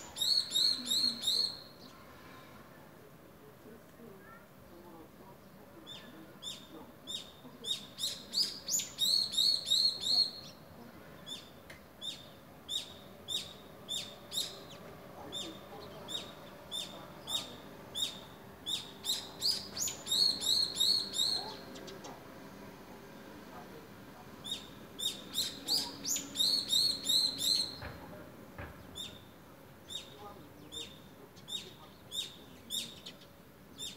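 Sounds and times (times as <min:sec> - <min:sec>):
bird chirping: 0:00.0 - 0:02.0, 0:05.4 - 0:22.2, 0:24.4 - 0:33.9.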